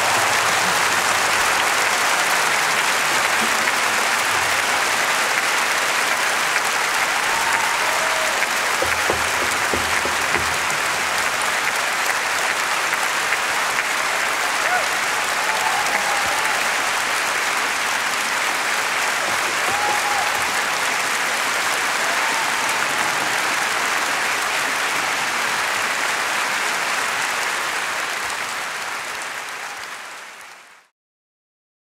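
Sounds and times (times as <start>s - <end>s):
audience cheers: 0.0s - 30.6s
audience applauding: 0.0s - 30.9s.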